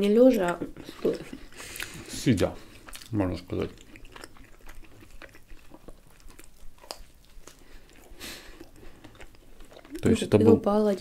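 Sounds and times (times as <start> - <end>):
chewing pizza: 0.0 - 11.0.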